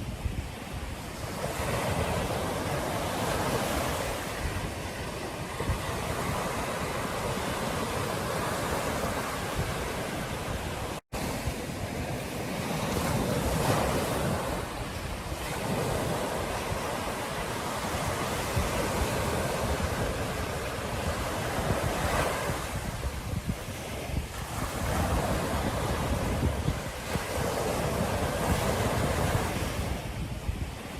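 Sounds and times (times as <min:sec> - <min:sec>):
ocean surf breaking: 0:00.0 - 0:30.9
wind on microphone: 0:00.0 - 0:30.9.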